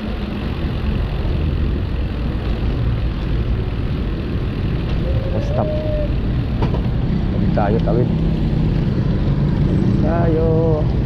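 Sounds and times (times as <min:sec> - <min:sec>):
road and traffic noise: 0:00.0 - 0:11.0.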